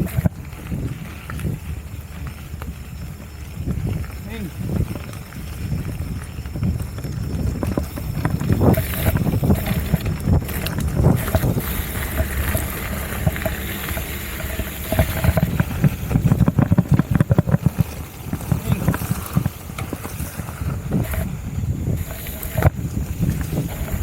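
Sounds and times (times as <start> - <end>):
bike knocks and rattles: 0.0 - 24.0
wind on microphone: 0.0 - 24.0.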